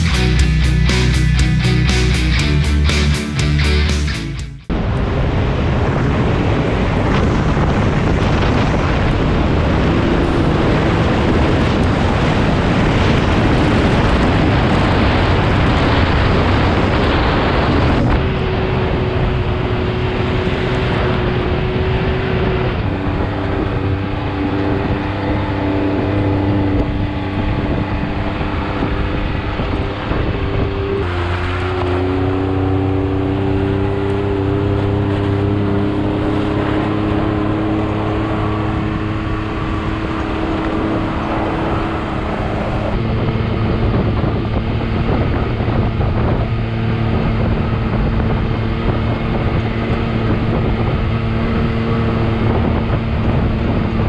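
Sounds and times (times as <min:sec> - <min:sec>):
off-road vehicle engine running: 0:00.0 - 0:54.0
tyre and wind noise: 0:04.7 - 0:54.0.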